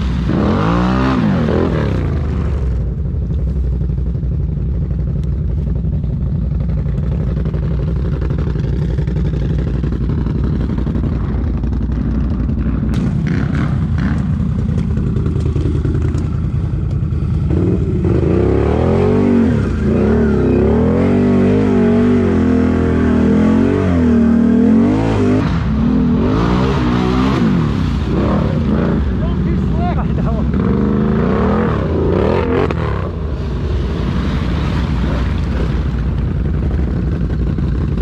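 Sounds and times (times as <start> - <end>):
atv engine revving: 0.0 - 3.9, 6.0 - 38.0.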